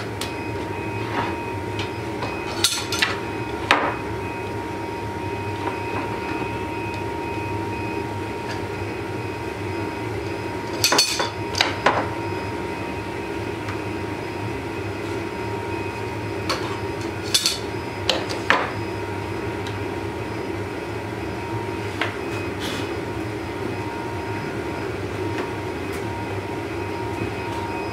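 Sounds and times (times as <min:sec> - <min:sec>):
gas torches burning: 0:00.0 - 0:27.9.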